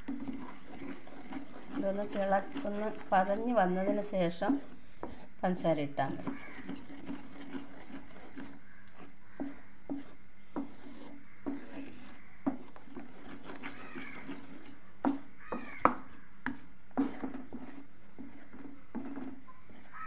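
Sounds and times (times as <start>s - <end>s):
wooden spatula scraping a pot: 0.0s - 20.0s.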